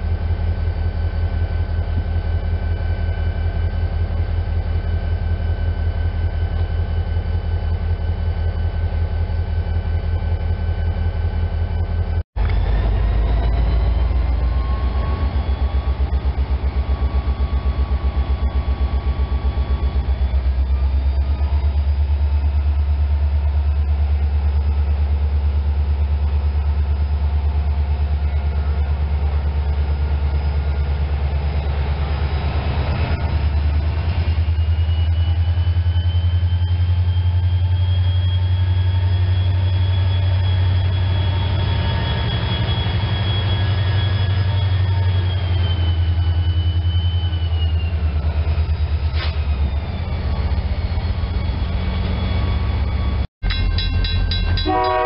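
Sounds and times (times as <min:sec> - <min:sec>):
locomotive engine throbbing: 0:00.0 - 0:55.0
rising whine: 0:00.0 - 0:55.0.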